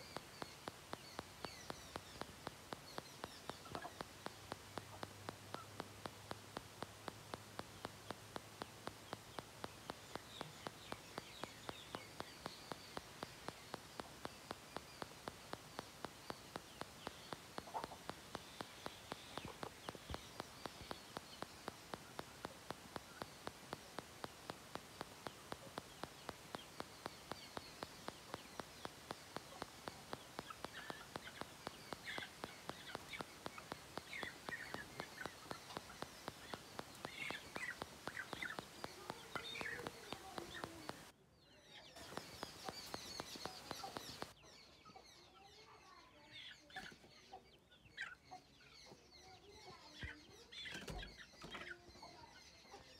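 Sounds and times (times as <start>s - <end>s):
steady ticking: 0.0s - 41.1s, 42.0s - 44.4s
chickens clucking and chirping: 0.0s - 52.9s.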